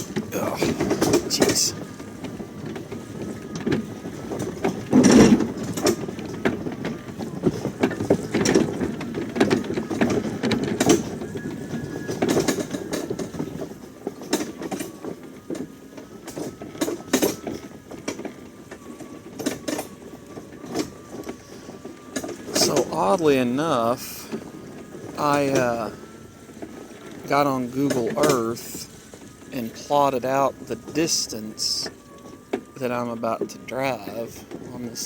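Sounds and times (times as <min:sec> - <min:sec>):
rattles and knocks of load: 0:00.0 - 0:35.0.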